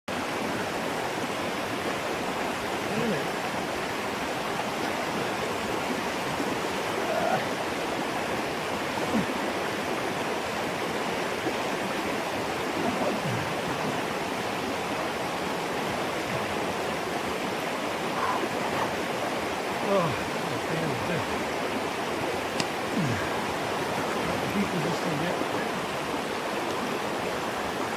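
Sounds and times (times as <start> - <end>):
creek water over rocks: 0.1 - 27.9.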